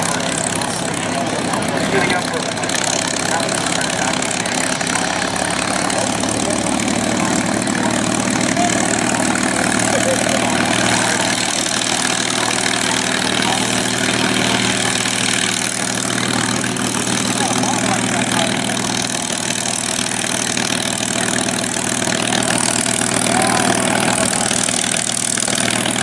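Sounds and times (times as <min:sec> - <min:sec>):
aircraft engine idling: 0:00.0 - 0:26.0.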